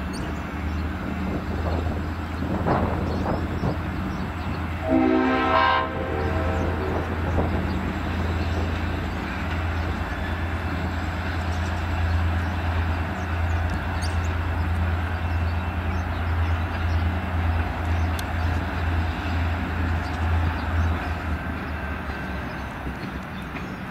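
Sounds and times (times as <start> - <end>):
locomotive engine droning: 0.0 - 23.9.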